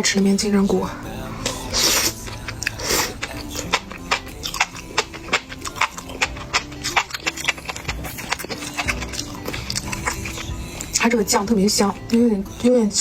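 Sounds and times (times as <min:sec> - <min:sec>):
soft background music: 0:00.0 - 0:13.0
crunchy chewing: 0:01.2 - 0:12.3.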